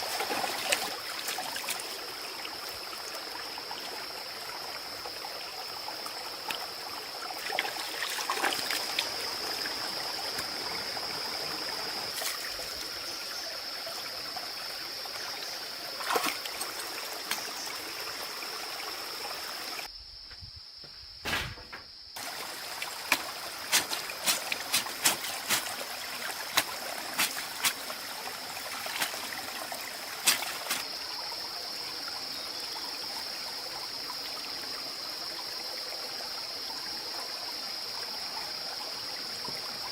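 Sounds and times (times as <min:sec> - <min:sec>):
water trickling: 0:00.0 - 0:19.9, 0:22.2 - 0:34.8.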